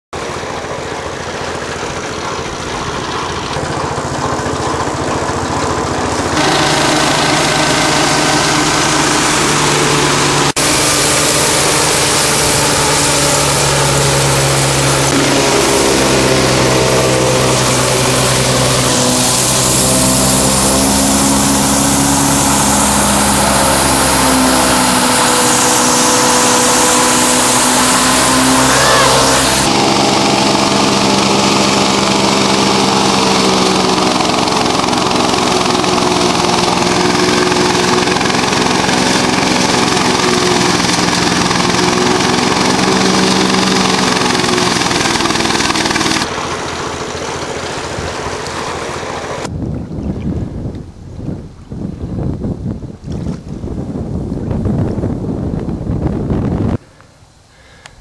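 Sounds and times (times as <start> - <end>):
machine engine running: 0.1 - 49.5.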